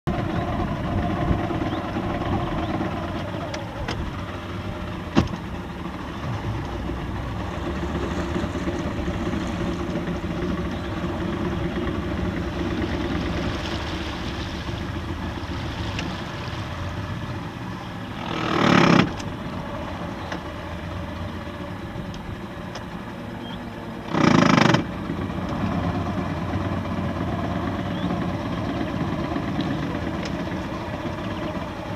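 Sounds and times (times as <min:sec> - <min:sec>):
outboard motor running: 0:00.1 - 0:31.9.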